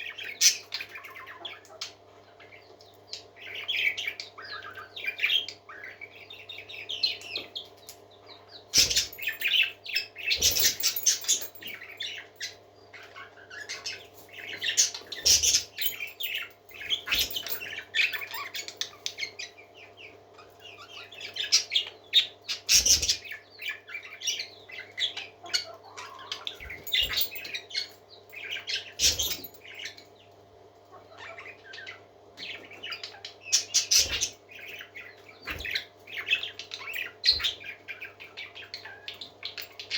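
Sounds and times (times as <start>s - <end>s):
parakeets chirping and chattering: 0.0s - 39.9s.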